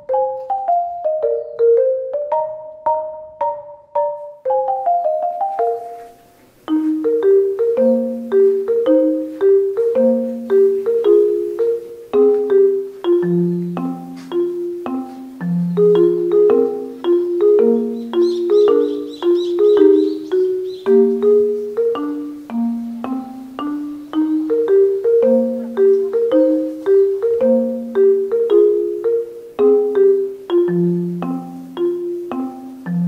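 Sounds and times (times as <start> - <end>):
marimba-like mallet music: 0.0 - 33.0.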